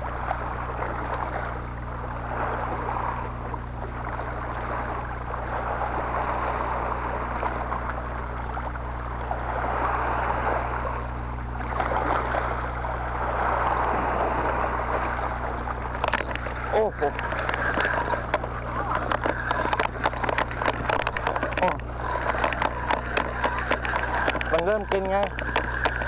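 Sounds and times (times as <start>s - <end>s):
sea water sloshing and lapping: 0.0s - 26.0s
steady low hum: 0.0s - 26.0s.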